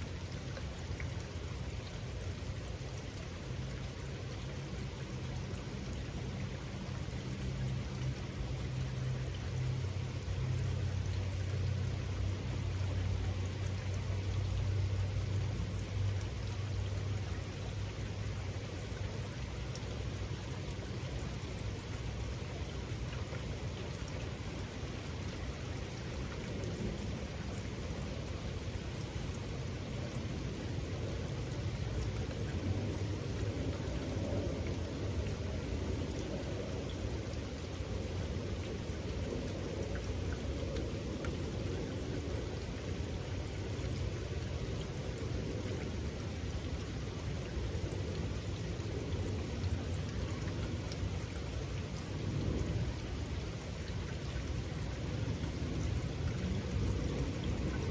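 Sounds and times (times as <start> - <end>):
steady rain falling: 0.0 - 57.9
water drips ticking: 0.0 - 57.9.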